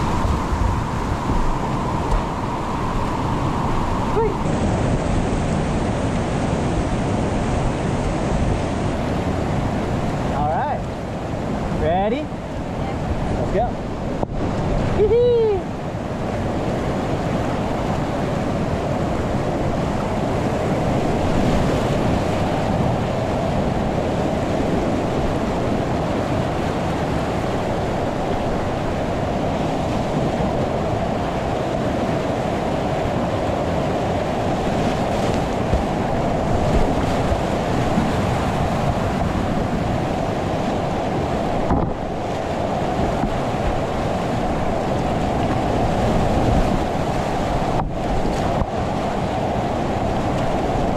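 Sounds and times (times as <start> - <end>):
whitewater rushing: 0.0 - 50.9
wind buffeting microphone: 0.0 - 50.9.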